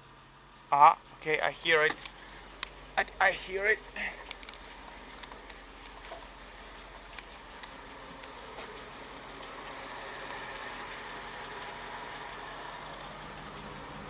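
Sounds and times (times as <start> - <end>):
car engine running near idle: 0.0 - 14.0.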